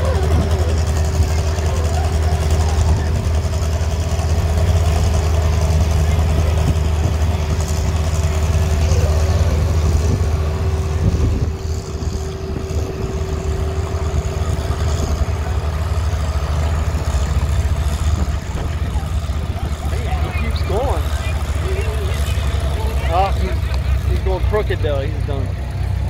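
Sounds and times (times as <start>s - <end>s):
thin steady whine: 0.0s - 25.6s
tractor diesel engine idling: 0.0s - 26.0s.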